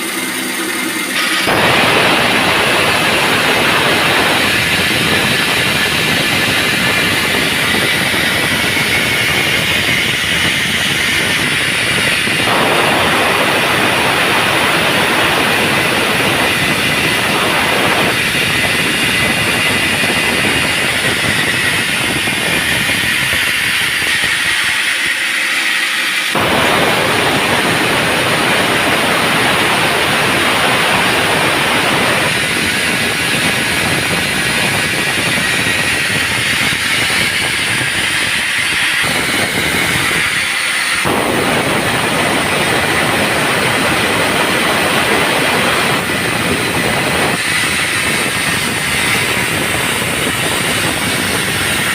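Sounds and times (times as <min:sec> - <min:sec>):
band saw cutting log: 0:00.0 - 0:51.9.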